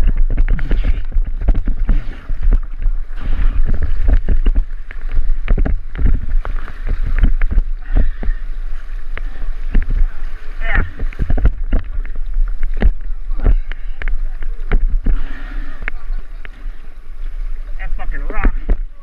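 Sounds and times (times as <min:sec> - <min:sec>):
low microphone rumble: 0:00.0 - 0:19.0
paddles knocking and splashing: 0:00.0 - 0:19.0
water splashing against kayaks: 0:00.0 - 0:19.0.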